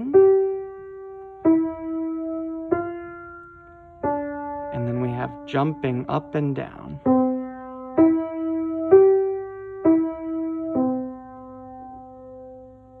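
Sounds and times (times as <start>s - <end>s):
piano single notes: 0.0s - 13.0s.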